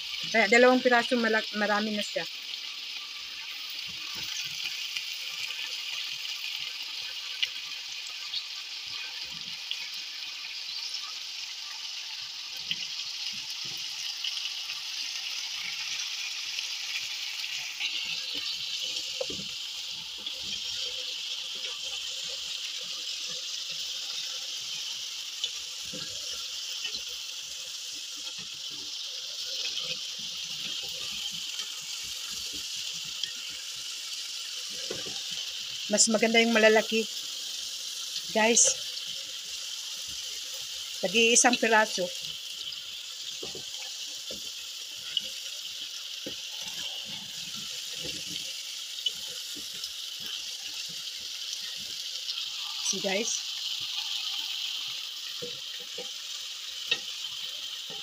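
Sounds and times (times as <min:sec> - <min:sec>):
meat sizzling in a pot: 0:00.0 - 0:58.0.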